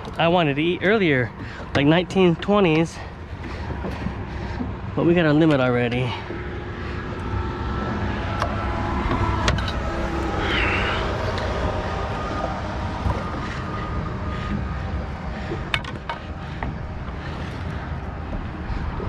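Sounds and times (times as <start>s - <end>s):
engine humming: 0.0s - 19.0s
faint steady tones: 0.0s - 19.0s.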